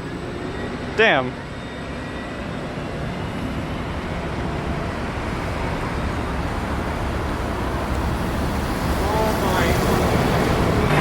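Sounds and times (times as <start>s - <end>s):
buses passing in traffic: 0.0s - 11.0s.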